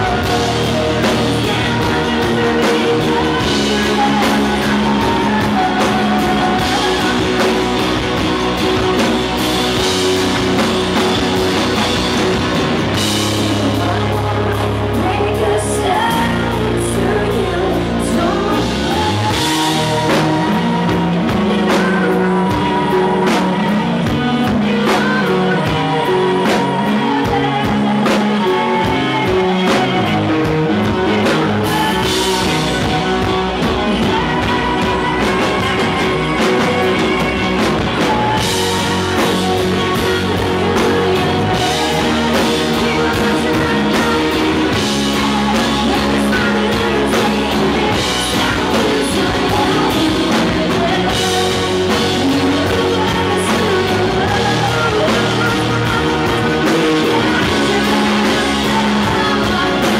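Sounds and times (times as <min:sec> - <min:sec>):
distorted electric guitars: 0:00.0 - 0:59.9
drum kit: 0:00.0 - 0:59.9
woman singing: 0:00.0 - 0:59.9.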